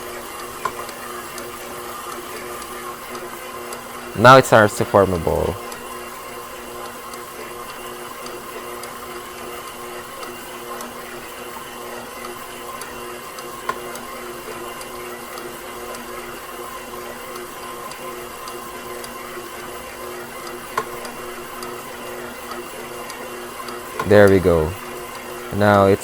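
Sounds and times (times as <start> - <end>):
stand mixer motor humming: 0.0 - 26.0.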